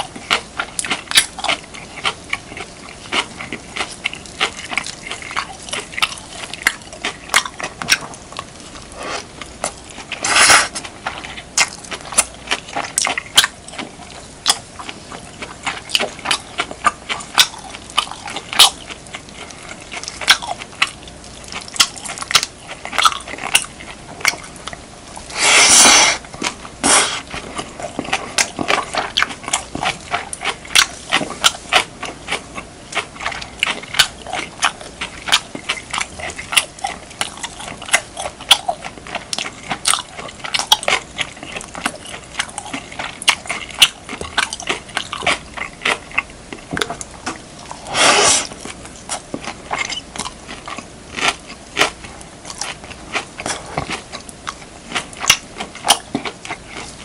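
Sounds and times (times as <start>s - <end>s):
close chewing and mouth sounds: 0.0s - 57.0s.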